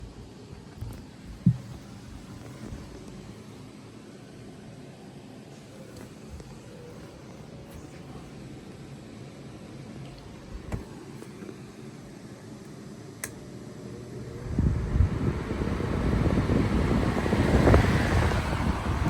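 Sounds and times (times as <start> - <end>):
fan air buffeting microphone: 0.0 - 19.0.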